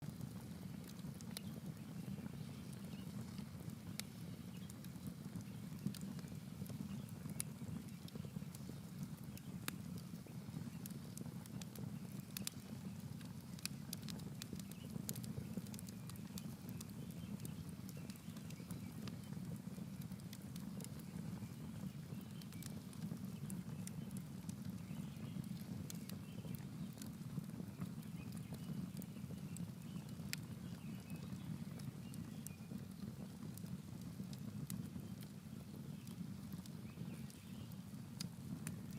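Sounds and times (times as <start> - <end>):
campfire wood crackling: 0.0 - 38.9
low fire rumble: 0.0 - 38.9.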